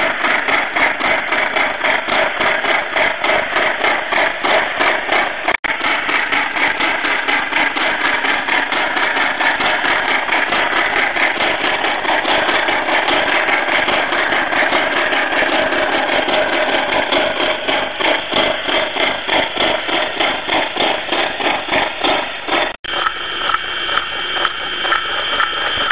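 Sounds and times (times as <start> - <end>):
steam locomotive chuffs from speaker: 0.0 - 25.9.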